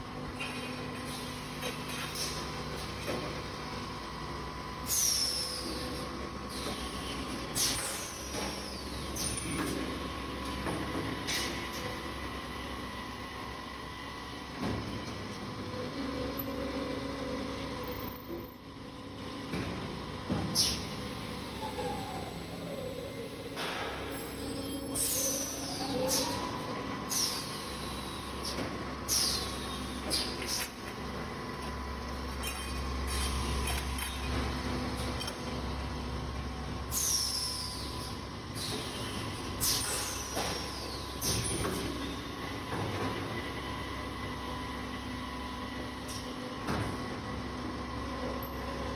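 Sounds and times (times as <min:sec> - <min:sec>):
machine humming and whining: 0:00.0 - 0:48.9.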